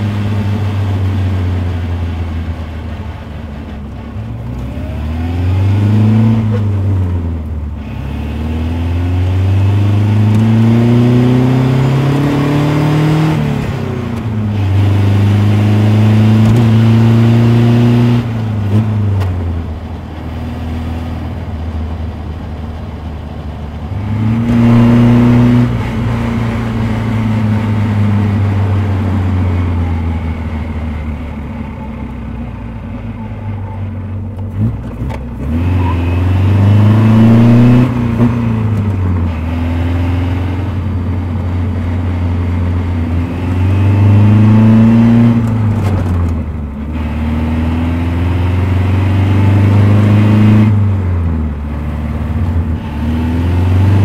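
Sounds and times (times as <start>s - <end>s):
sports car engine accelerating: 0.0s - 54.0s.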